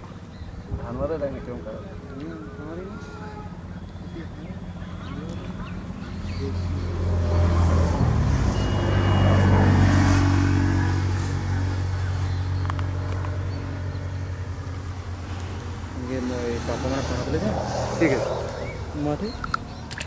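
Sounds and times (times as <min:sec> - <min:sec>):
vehicle engine passing: 0:00.8 - 0:20.0.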